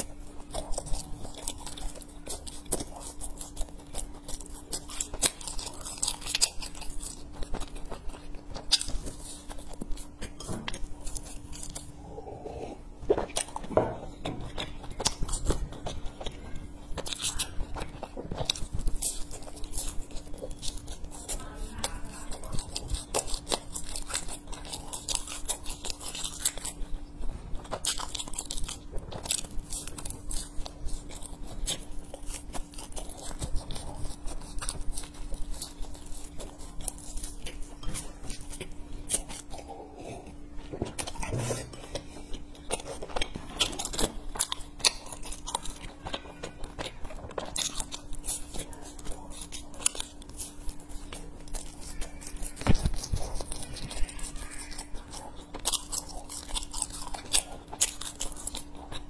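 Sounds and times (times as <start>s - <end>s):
crunchy bar being chewed: 0.0s - 59.0s.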